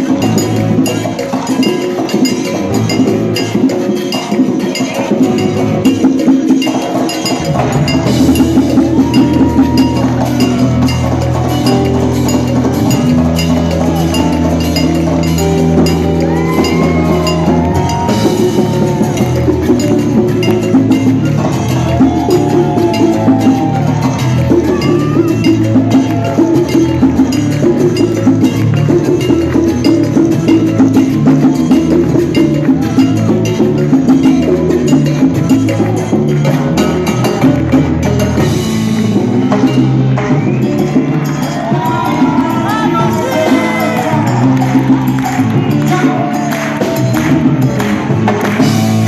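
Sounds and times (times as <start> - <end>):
cowbell: 0.0 - 49.0
hand percussion: 0.0 - 49.0
salsa band playing: 0.0 - 49.0
deep bass line: 7.4 - 49.0.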